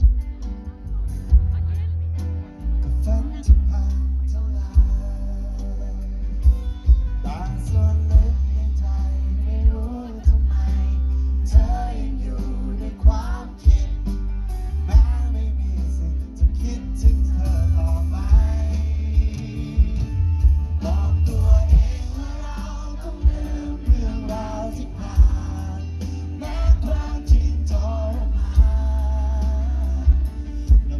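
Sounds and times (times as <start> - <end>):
drums: 0.0 - 30.9
electric bass: 0.0 - 30.9
man singing into microphone: 2.8 - 30.9.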